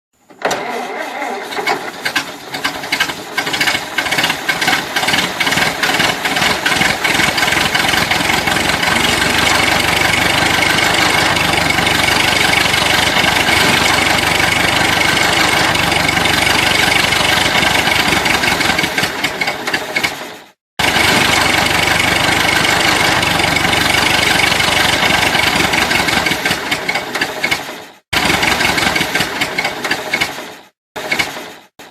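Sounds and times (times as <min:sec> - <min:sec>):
car starter cranking: 0:00.3 - 0:31.5
car engine running: 0:02.3 - 0:20.0, 0:20.8 - 0:27.5, 0:28.2 - 0:30.3.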